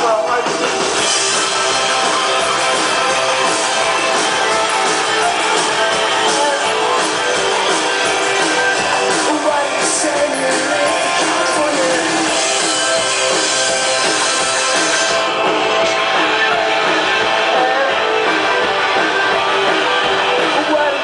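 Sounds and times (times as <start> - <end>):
drum kit: 0.0 - 21.0
electric guitar: 0.0 - 21.0
pop-rock band playing: 0.0 - 21.0.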